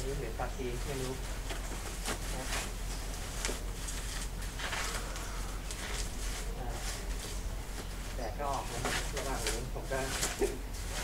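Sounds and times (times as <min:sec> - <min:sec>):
plastic wrapping crinkling: 0:00.8 - 0:11.0.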